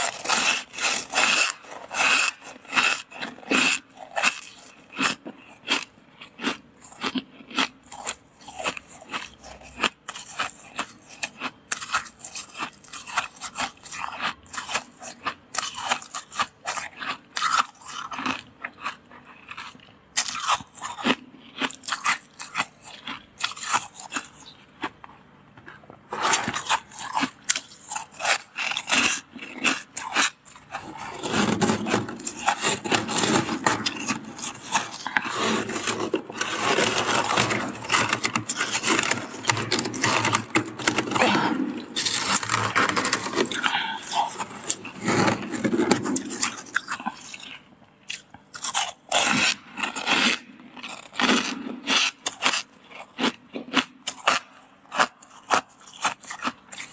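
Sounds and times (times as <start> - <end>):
frost crunching and crackling: 0.0 - 25.0, 25.7 - 56.9.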